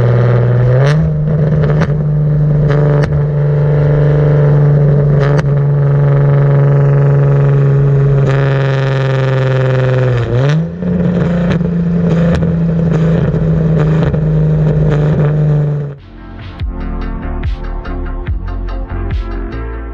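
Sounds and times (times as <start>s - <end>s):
exhaust pops: 0.0s - 19.6s
car exhaust drone: 0.0s - 19.9s.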